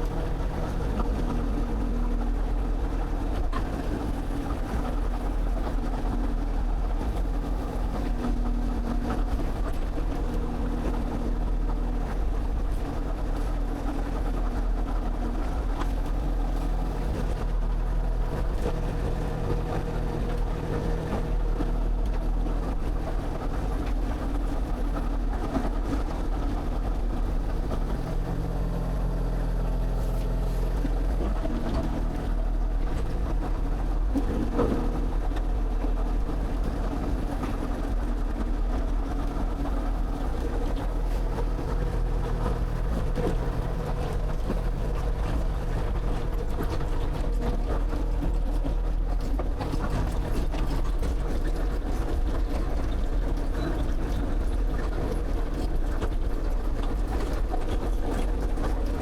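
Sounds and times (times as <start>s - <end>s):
excavator diesel engine under load: 0.0s - 59.0s.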